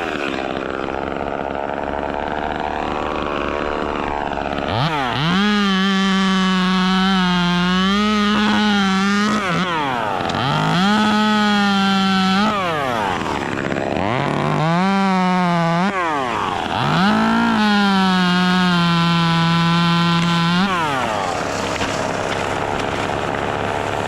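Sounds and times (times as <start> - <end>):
chainsaw running at high speed: 0.0 - 24.0.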